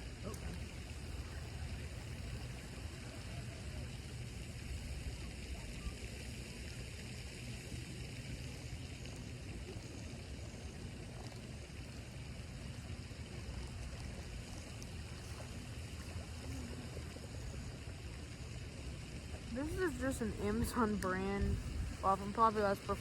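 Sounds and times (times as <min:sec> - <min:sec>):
low fluctuating rumble: 0:00.0 - 0:23.0.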